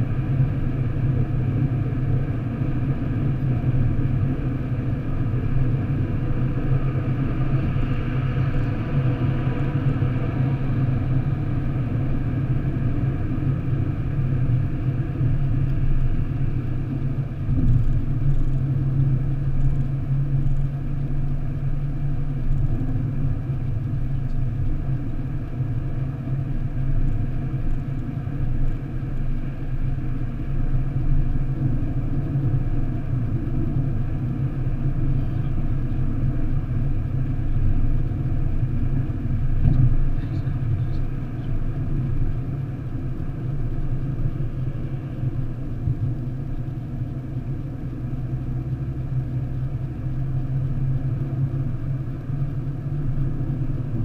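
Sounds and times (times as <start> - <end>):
road and engine rumble in car: 0.0 - 54.0.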